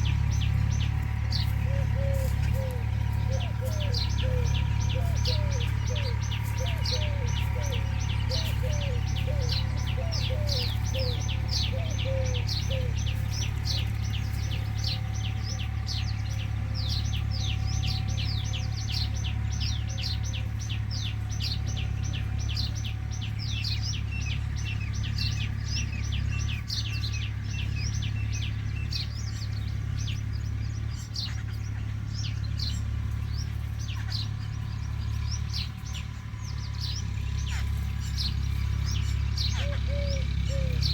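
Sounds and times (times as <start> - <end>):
lower repeated bird call: 0.0 - 40.9
small birds chirping rapidly: 0.0 - 40.9
steady low hum: 0.0 - 40.9.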